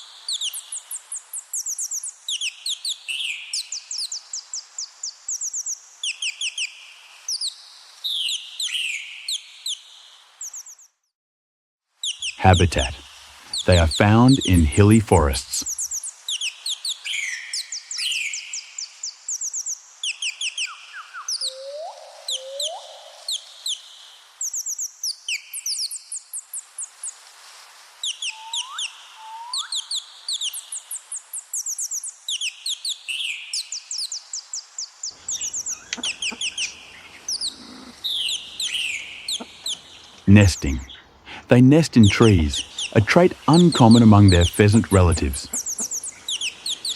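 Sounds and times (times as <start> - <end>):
small birds chirping: 0.3 - 11.0, 12.0 - 26.3, 28.0 - 46.9.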